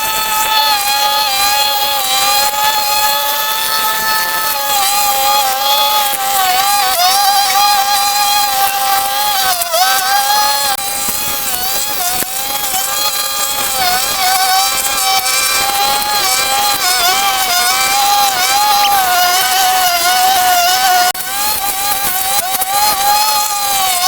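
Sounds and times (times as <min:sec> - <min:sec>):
small motor whining: 0:00.0 - 0:24.0.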